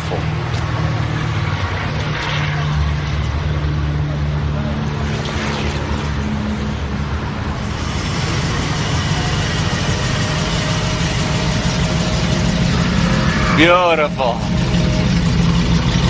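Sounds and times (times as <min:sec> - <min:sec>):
road and tyre noise hiss: 0:00.0 - 0:15.6
car engines rumbling: 0:00.0 - 0:16.0.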